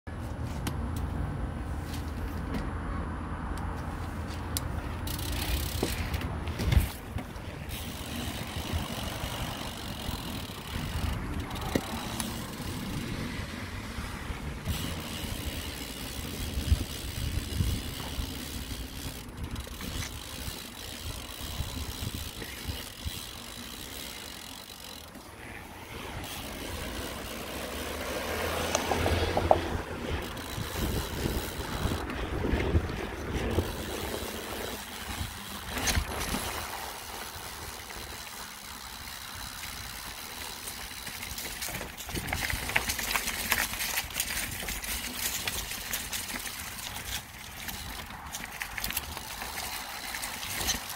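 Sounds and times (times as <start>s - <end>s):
bike knocks and rattles: 3.8s - 13.2s, 14.6s - 25.6s, 26.2s - 50.9s
mountain bike rumble: 3.8s - 50.9s.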